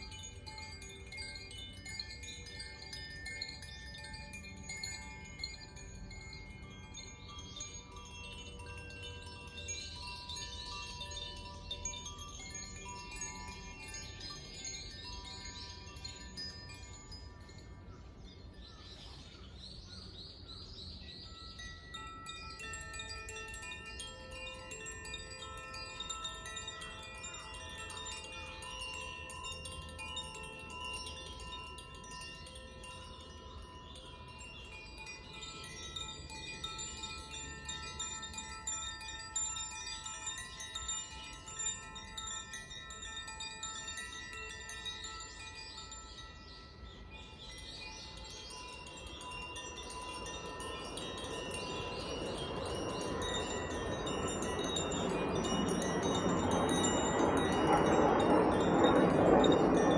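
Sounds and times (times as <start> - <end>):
wind chimes ringing: 0.0 - 59.9.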